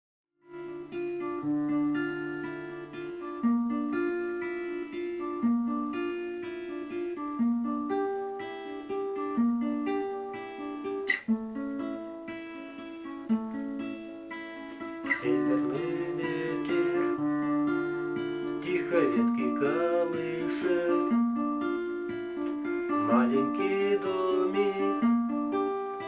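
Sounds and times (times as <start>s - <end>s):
fingerstyle acoustic guitar: 0.4s - 26.0s.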